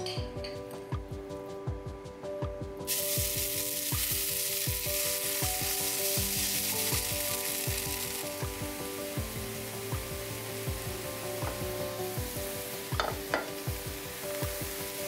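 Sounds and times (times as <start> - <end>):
background music with steady beat: 0.0 - 15.0
batter sizzling in hot oil: 2.9 - 15.0.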